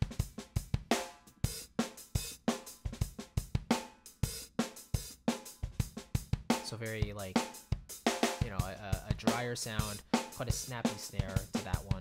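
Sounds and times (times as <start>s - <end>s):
drum kit funk groove: 0.0s - 12.0s.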